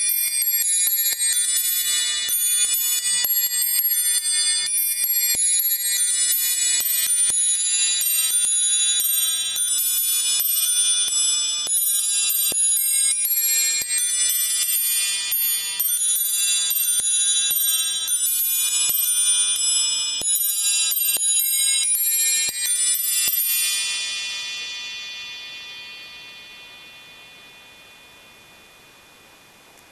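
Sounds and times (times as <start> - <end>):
musical clock bells playing tune: 0.0 - 29.0.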